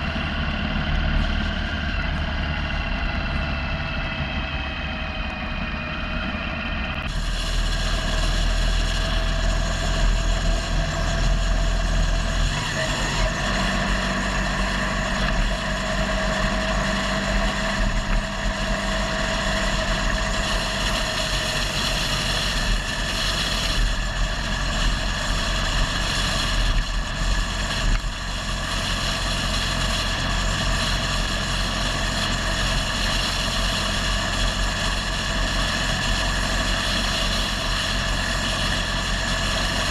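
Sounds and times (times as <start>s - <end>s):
motorcycle engine running: 0.0s - 39.9s
rushing wind: 0.0s - 39.9s.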